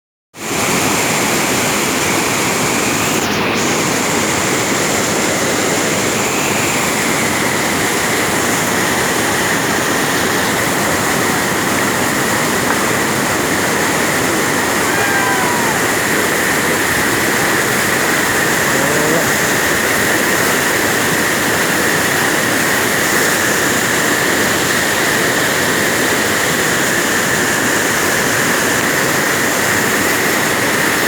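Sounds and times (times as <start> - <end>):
rushing water: 0.4 - 31.0.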